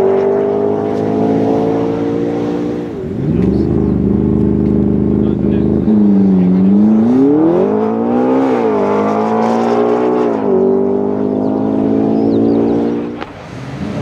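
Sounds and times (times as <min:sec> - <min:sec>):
car engine accelerating past: 0:00.0 - 0:14.0.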